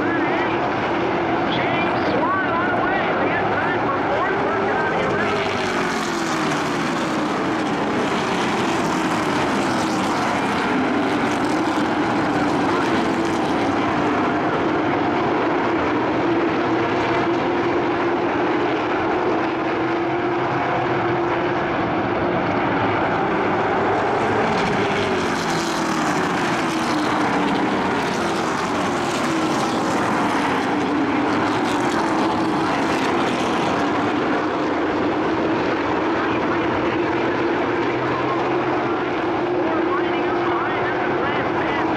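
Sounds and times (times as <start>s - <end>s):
racing truck engines passing: 0.0s - 41.9s.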